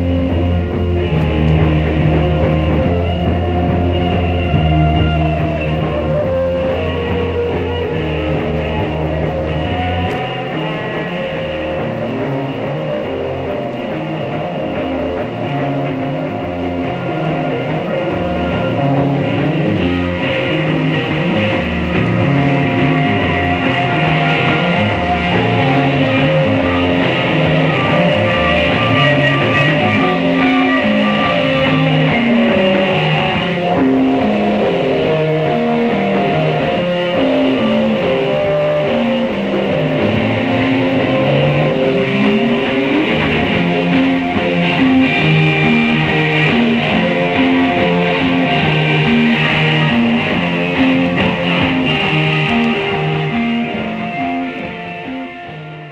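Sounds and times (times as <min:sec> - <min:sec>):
bass line: 0:00.0 - 0:55.9
guitar-led rock music: 0:00.0 - 0:55.9.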